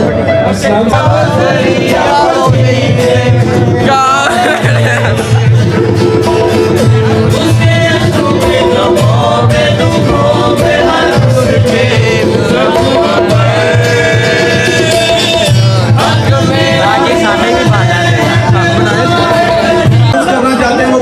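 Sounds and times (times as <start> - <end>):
person singing: 0.0 - 20.2
percussion strokes: 0.5 - 20.2.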